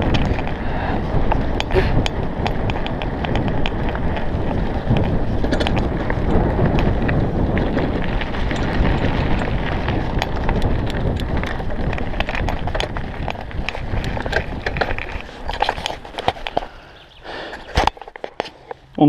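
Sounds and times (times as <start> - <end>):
wind buffeting microphone: 0.0 - 18.5
tyres rumbling over gravel: 0.0 - 18.8
bike rattling clicks: 0.0 - 19.0.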